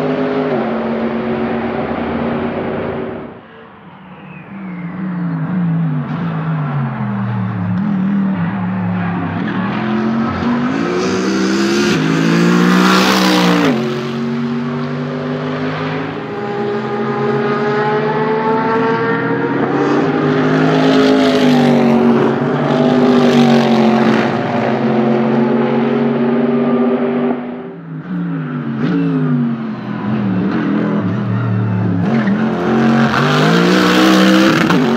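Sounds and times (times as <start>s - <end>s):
race car engines at full throttle: 0.0s - 34.9s.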